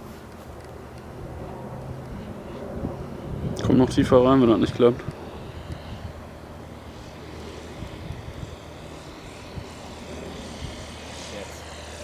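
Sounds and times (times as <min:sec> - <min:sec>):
model airplane motor hum: 0:00.0 - 0:12.0.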